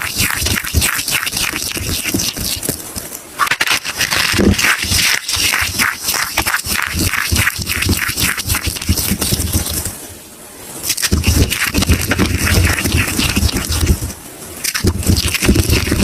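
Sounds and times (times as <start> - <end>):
soap crunching: 0.0 - 9.9, 10.8 - 16.0.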